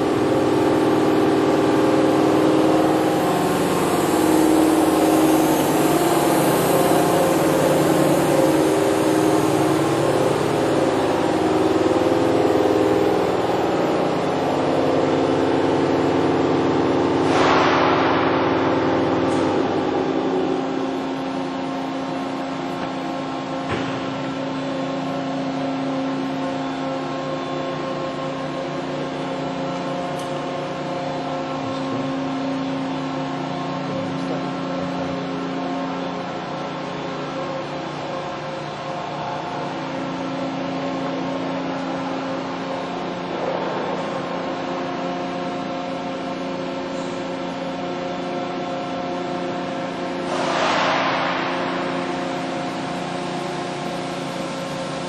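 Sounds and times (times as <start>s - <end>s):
machining center humming: 0.0s - 55.0s.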